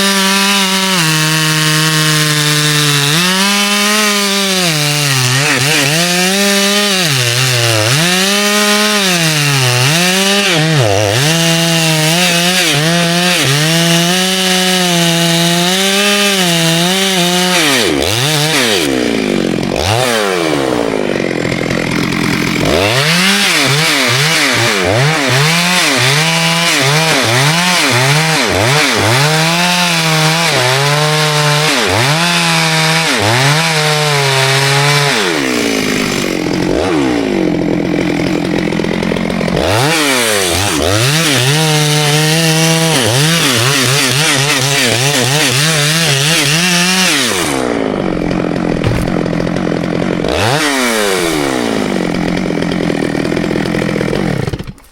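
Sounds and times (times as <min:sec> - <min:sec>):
chainsaw cutting wood: 0:00.0 - 0:54.9
chainsaw idling: 0:00.0 - 0:54.9.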